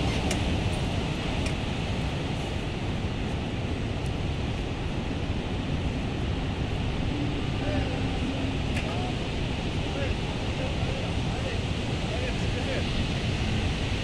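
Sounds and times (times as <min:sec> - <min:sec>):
ocean waves breaking: 0:00.0 - 0:14.0
wind rumbling on microphone: 0:00.0 - 0:14.0.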